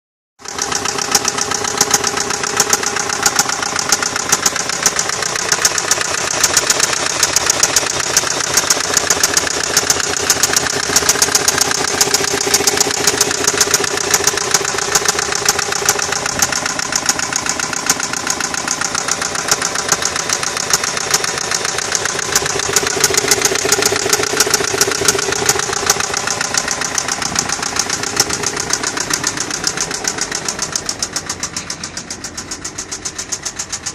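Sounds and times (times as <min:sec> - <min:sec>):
car engine idling: 0:00.4 - 0:33.9
rapid engine knock: 0:00.4 - 0:33.9.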